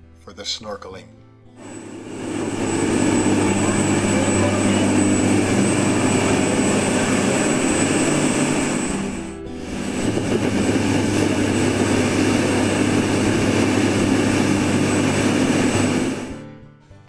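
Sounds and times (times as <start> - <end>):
boat engine running: 1.6 - 16.4
thin high whine: 1.6 - 16.4
rush of wind and water: 2.1 - 15.9.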